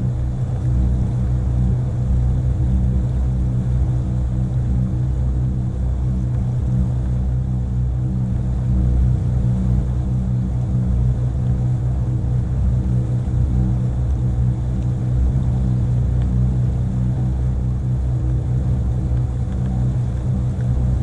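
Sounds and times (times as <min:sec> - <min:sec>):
motorboat engine humming: 0:00.0 - 0:21.0.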